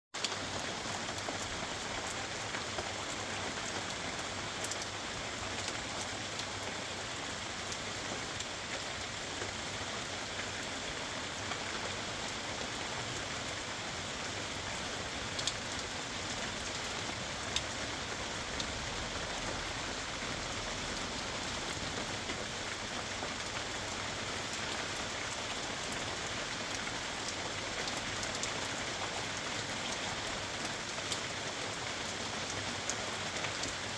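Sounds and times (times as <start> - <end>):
steady rain hissing: 0.2 - 33.9.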